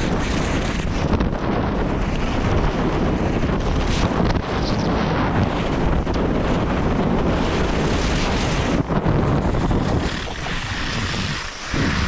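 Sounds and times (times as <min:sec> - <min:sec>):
skis scraping on snow: 0:00.0 - 0:12.0
wind on microphone: 0:00.0 - 0:12.0.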